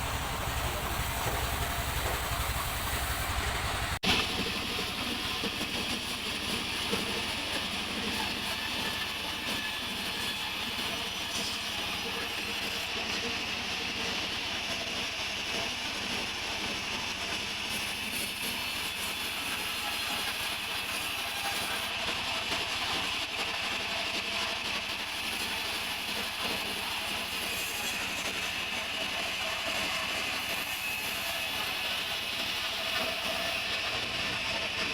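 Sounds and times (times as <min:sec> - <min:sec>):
sawmill saw cutting log: 0:00.0 - 0:34.9.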